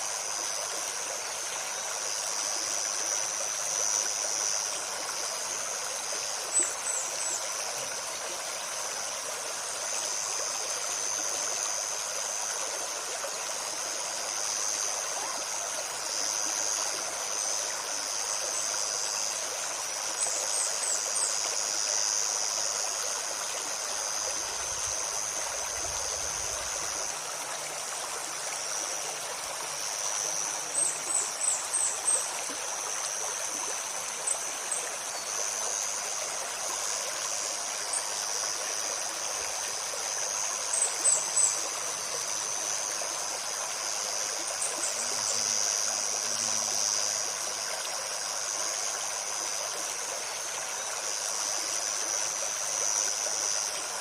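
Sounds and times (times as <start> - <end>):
river running over stones: 0.0 - 54.0.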